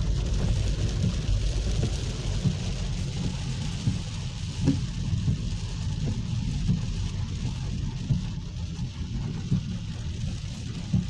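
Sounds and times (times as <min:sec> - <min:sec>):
car rumbling on wet road: 0:00.0 - 0:11.0
rain on car windscreen: 0:00.0 - 0:11.0.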